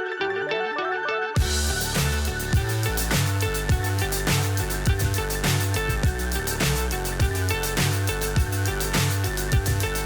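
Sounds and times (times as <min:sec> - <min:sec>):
plucked notes run: 0:00.2 - 0:10.0
beat with heavy bass and drums: 0:01.4 - 0:10.0.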